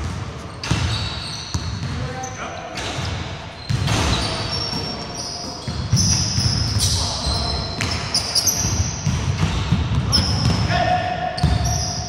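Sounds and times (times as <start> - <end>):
basketball bouncing on wooden court: 0.0 - 2.1, 2.8 - 10.7, 11.4 - 12.0
sneakers squeaking on wood floor: 0.0 - 12.0.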